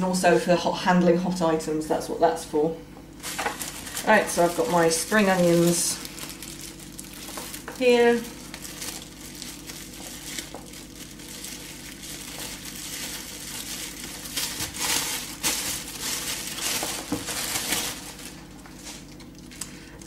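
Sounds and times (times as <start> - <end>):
plastic bag crinkling: 3.2 - 19.7.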